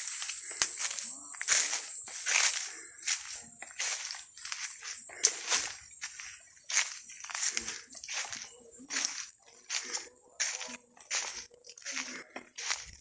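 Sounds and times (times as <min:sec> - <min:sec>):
steady high-pitched hiss: 0:00.0 - 0:12.8
crunching and rustling: 0:00.0 - 0:13.0.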